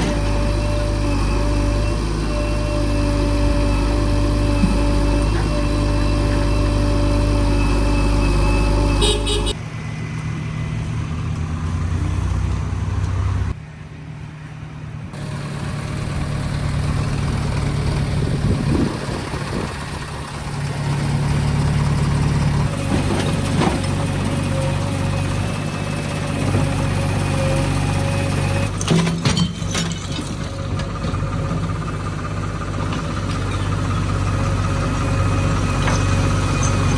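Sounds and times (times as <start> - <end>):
heavy machinery diesel engines: 0.0 - 36.9.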